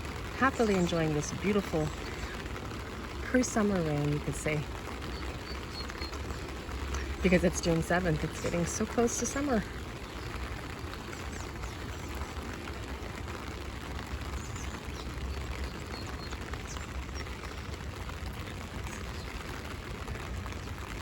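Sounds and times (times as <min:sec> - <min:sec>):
rain pattering on an umbrella: 0:00.0 - 0:21.0
steady low rumble: 0:00.0 - 0:21.0.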